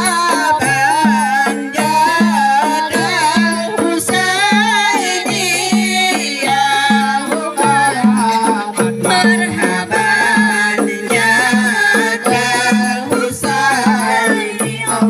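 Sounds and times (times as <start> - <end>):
frame drums beaten in rhythm: 0.0 - 15.0
woman singing through microphone: 0.0 - 15.0.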